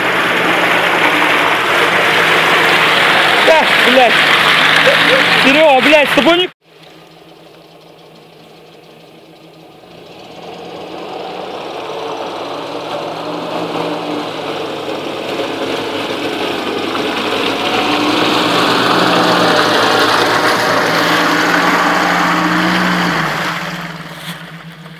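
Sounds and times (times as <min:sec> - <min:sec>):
off-road vehicle driving through mud: 0:00.0 - 0:24.9.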